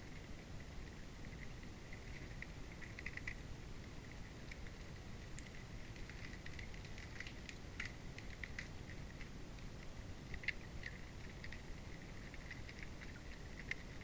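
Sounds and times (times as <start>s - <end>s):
small ticks and clicks under ice: 0.0s - 14.0s.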